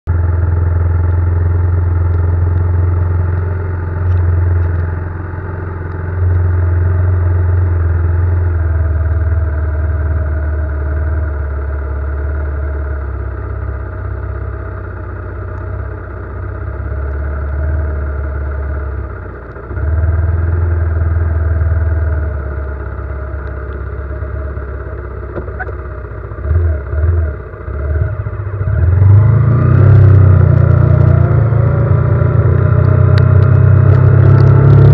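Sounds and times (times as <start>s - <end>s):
vehicle engine drone: 0.0s - 34.9s.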